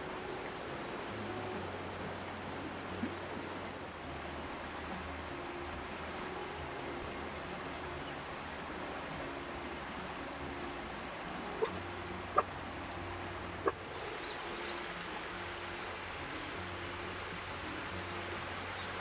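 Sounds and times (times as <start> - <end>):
rain and river water rushing: 0.0 - 19.0.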